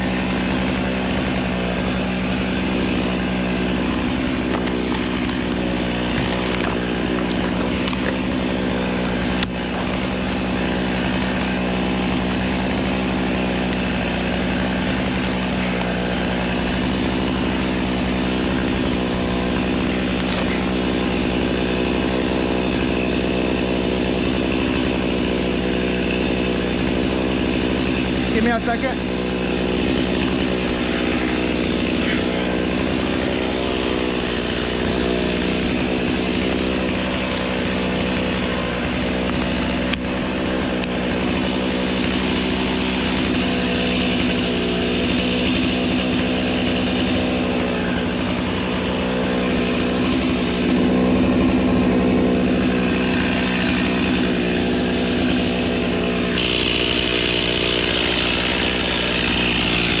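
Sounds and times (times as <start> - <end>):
chainsaw cutting wood: 0.0 - 60.0.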